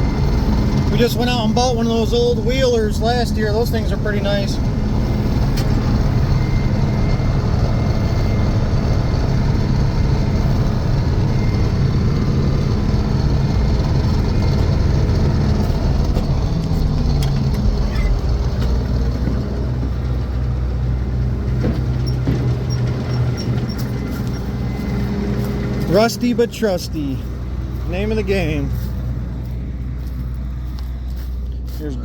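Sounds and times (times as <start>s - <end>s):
heavy machine engine running: 0.0s - 32.0s.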